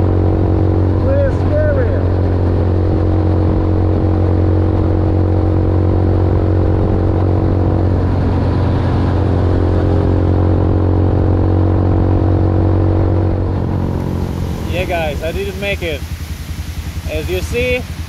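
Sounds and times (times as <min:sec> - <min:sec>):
motorbike engine cruising: 0:00.0 - 0:18.0.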